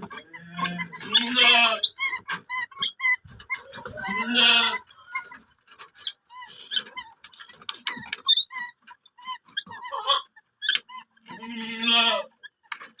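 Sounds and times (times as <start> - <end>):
cormorants calling: 0.0 - 13.0.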